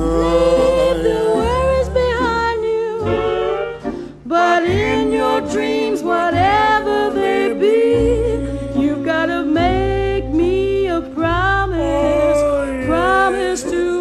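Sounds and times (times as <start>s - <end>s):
bass line: 0.0s - 3.9s, 6.2s - 14.0s
voices singing in harmony: 0.0s - 14.0s.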